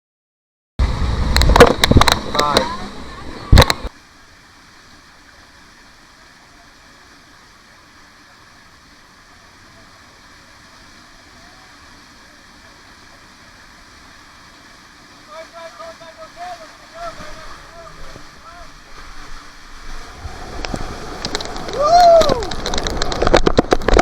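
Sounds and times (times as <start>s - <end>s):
running water rushing: 0.8s - 24.0s.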